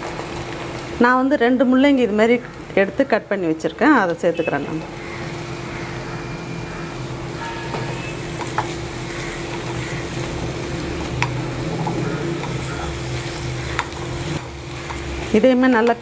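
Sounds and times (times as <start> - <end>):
radish sizzling in hot oil: 0.0 - 16.0.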